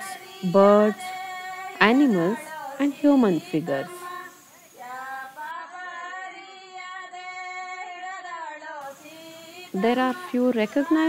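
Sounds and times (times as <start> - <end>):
woman singing long notes: 0.0 - 11.0.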